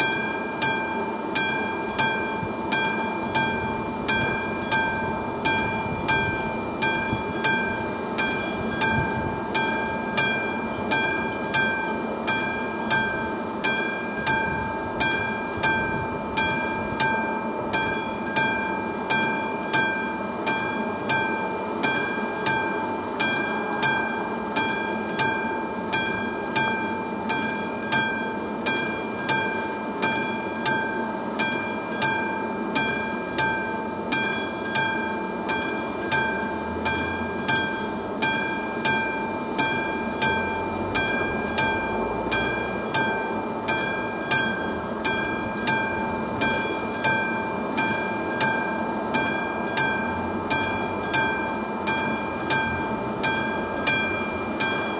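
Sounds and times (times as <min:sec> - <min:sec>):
level crossing bell striking: 0:00.0 - 0:54.9.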